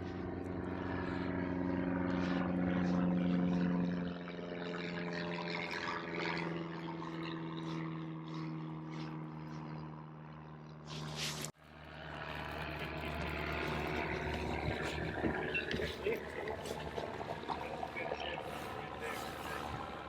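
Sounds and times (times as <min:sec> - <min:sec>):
propeller airplane passing overhead: 0:00.0 - 0:20.0.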